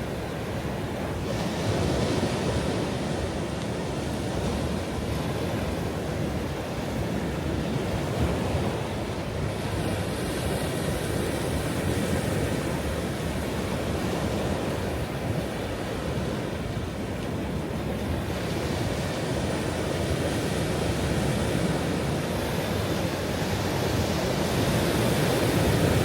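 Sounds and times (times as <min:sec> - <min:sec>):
ocean waves washing ashore: 0:00.0 - 0:26.0
wind on microphone: 0:00.0 - 0:26.0.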